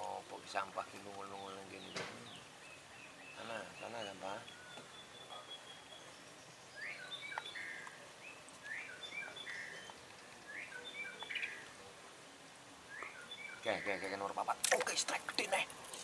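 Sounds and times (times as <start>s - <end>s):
faint outdoor background noise: 0.0s - 16.0s
songbird chirping: 0.0s - 16.0s.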